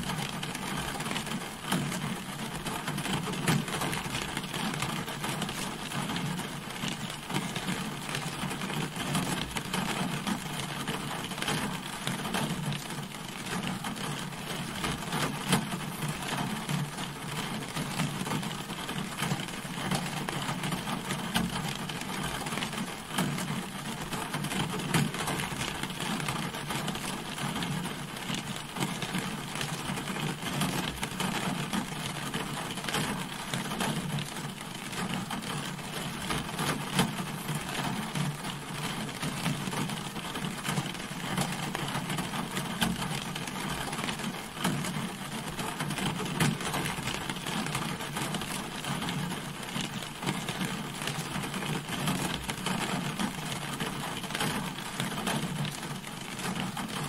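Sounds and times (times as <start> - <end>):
rain pattering on a car: 0.0 - 57.0.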